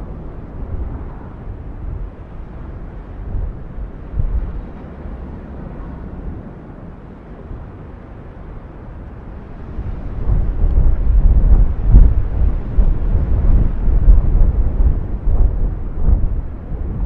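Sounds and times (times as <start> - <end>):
deep rumbling of erupting volcano: 0.0 - 17.0.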